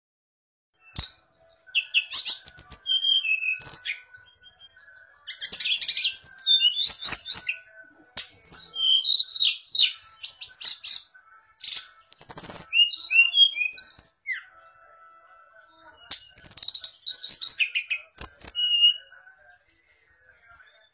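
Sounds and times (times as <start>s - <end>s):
songbird twittering: 1.0s - 14.5s, 15.3s - 19.1s.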